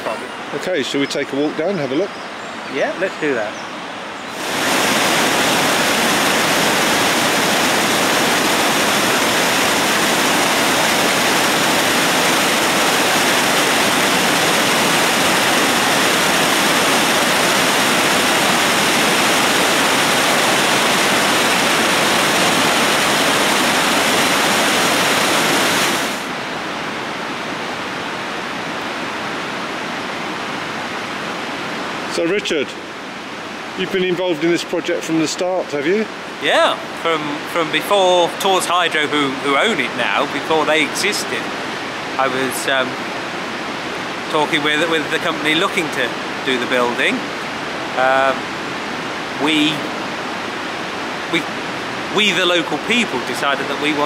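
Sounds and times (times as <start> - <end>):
water rushing over a weir: 2.8 - 54.0.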